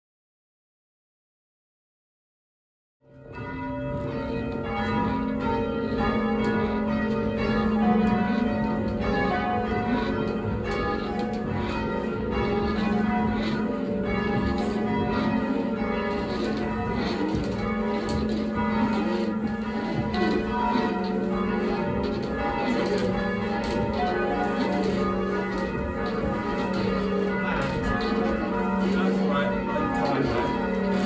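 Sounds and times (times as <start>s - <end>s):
church bells ringing: 3.0s - 31.0s.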